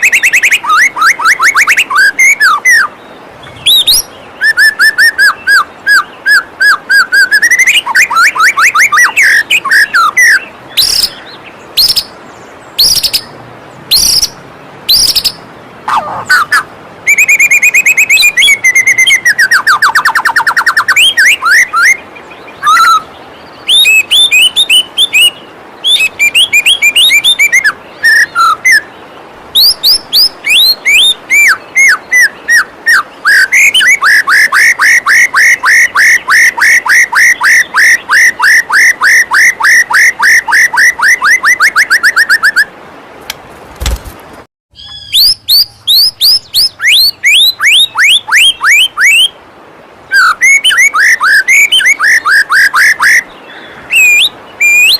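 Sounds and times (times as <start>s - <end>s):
bird singing whistles and trills: 0.0s - 28.9s, 29.5s - 42.7s, 44.7s - 49.4s, 50.1s - 54.9s
flowing water: 0.0s - 44.5s, 45.2s - 54.9s.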